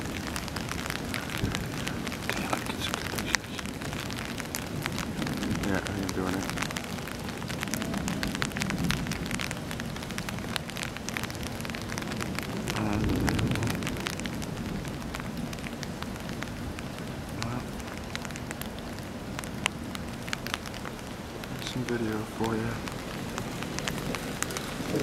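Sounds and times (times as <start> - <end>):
low thunder rumble: 0.0 - 25.0
raindrops ticking: 0.0 - 25.0
steady rain: 0.0 - 25.0.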